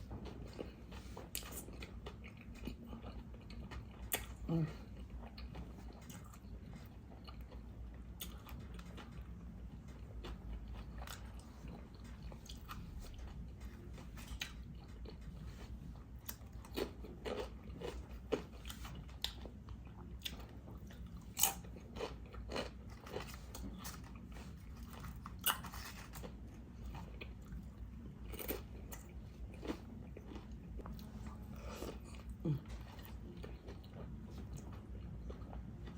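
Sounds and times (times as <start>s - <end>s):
person chewing food: 0.0s - 35.9s
steady low hum: 0.0s - 35.9s.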